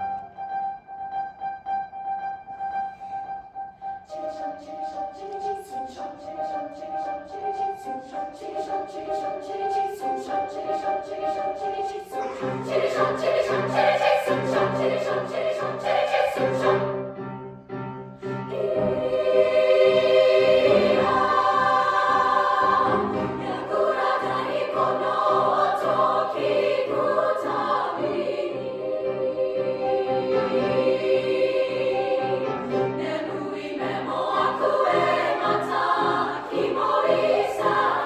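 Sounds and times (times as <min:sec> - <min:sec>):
choir singing: 0:02.7 - 0:17.5, 0:18.2 - 0:38.0.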